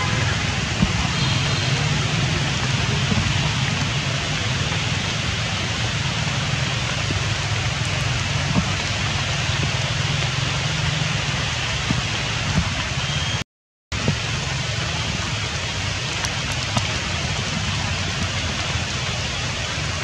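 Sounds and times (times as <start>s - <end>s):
steady rain falling: 0.0s - 20.0s
faint drips and taps: 0.1s - 13.4s, 16.0s - 19.0s.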